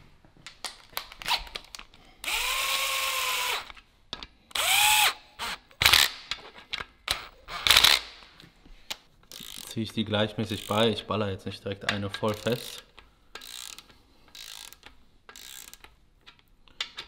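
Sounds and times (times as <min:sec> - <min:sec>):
tool and parts clicking: 0:00.5 - 0:09.8, 0:11.8 - 0:17.0.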